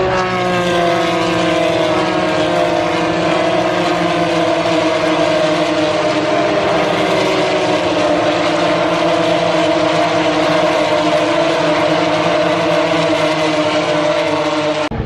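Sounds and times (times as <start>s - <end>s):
racing cars passing at high revs: 0.0s - 14.9s.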